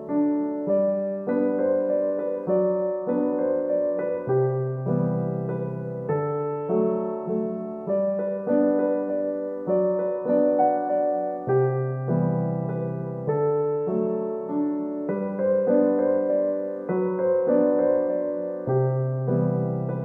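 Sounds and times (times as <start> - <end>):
slow gentle piano music: 0.0 - 20.0.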